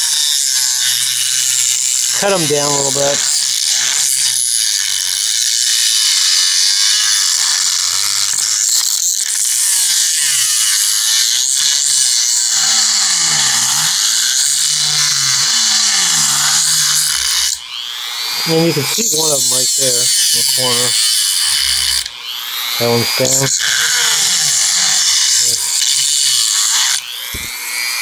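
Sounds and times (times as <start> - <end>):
rotary tool grinding metal: 0.0 - 28.0.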